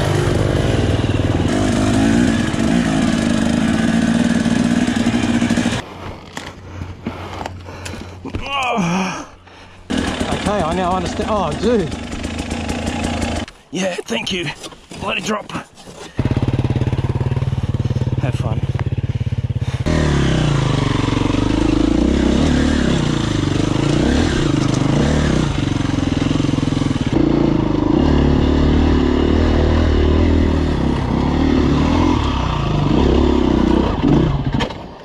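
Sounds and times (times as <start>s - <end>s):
dirt bike engine: 0.0s - 8.8s, 9.8s - 14.0s, 16.0s - 35.0s.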